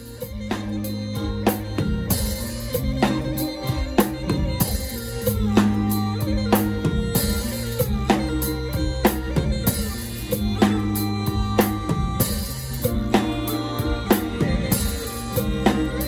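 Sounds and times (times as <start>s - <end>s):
band playing groove: 0.0s - 16.0s.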